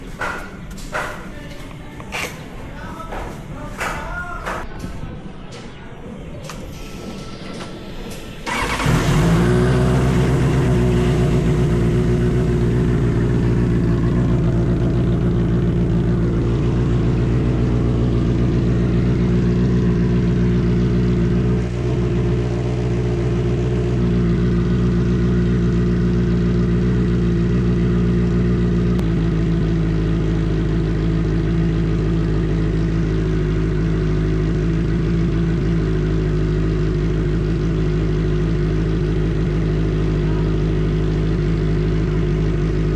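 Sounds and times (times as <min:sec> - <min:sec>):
motorcycle engine starting and idling: 0:06.4 - 0:42.9.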